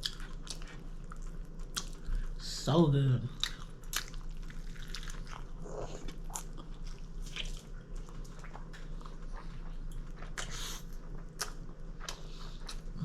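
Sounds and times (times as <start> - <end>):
person chewing crunchy food: 0.0 - 2.4, 3.3 - 13.0
faint low hum: 0.0 - 13.0.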